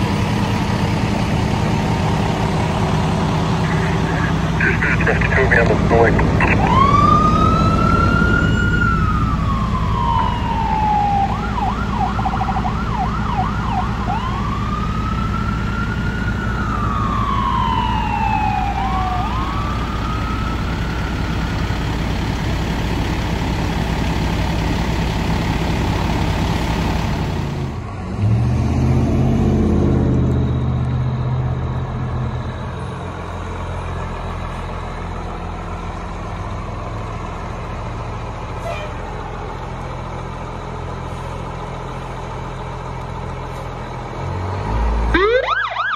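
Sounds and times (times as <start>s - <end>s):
fire truck siren wailing: 0.0s - 43.1s, 44.6s - 45.9s
heavy truck engine rumble: 0.0s - 45.9s
truck engine revving: 0.0s - 45.9s.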